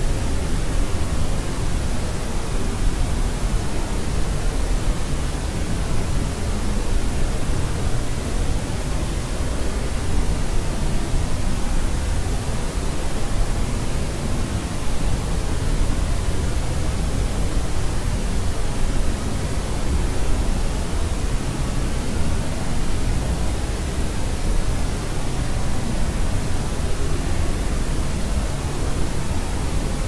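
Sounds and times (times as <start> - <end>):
steady synthetic hiss: 0.0 - 30.0.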